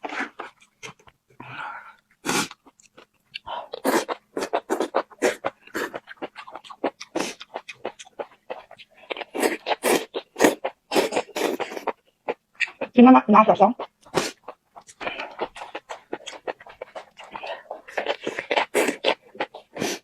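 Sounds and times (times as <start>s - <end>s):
chewing and crunching: 0.0s - 13.0s, 13.8s - 20.0s.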